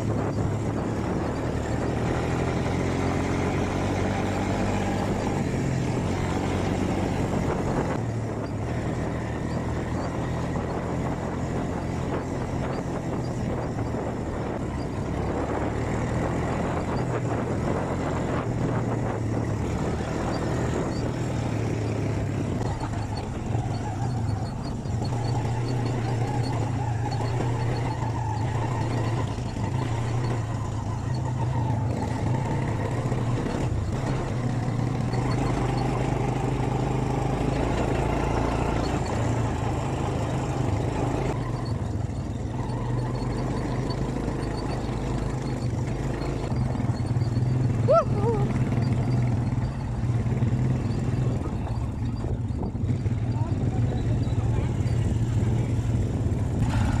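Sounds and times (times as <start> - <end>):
quad bike engine droning: 0.0 - 57.0.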